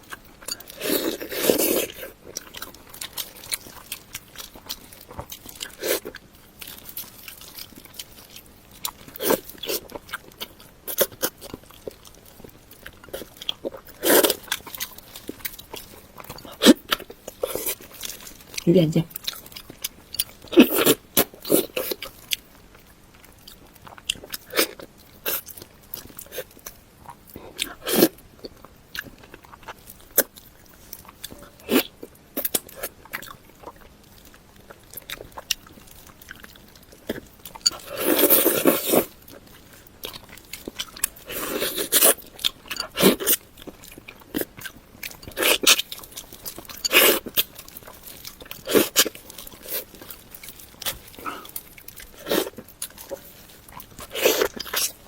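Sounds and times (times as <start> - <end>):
chewing and mouth clicks: 0.0 - 55.0.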